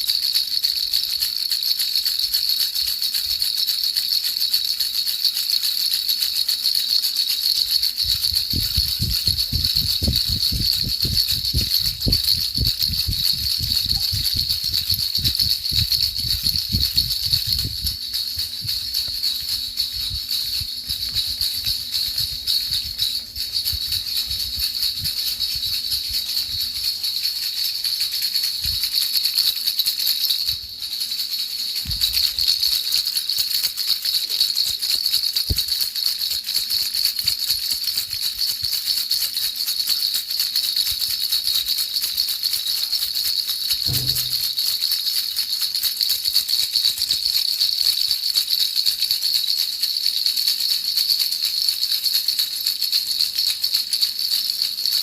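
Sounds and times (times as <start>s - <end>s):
baby rattle shaken: 0.0s - 55.0s.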